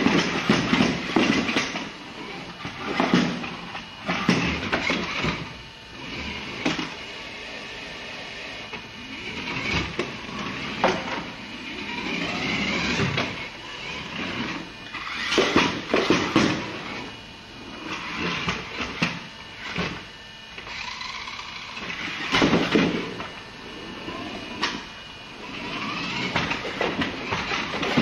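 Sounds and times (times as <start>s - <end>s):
toy car motor whining: 0.0s - 28.0s.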